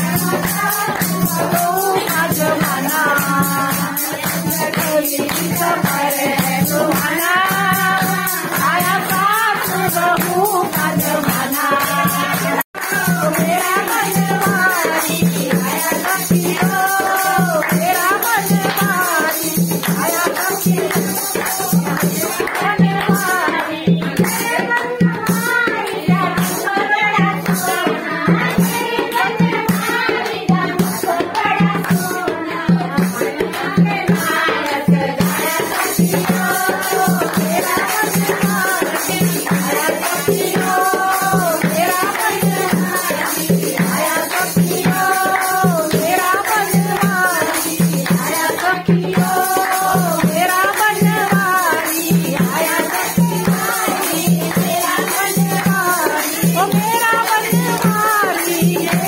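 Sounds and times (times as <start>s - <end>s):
hand clapping: 0.0s - 59.0s
rattling percussion: 0.0s - 59.0s
women singing devotional song: 0.0s - 59.0s.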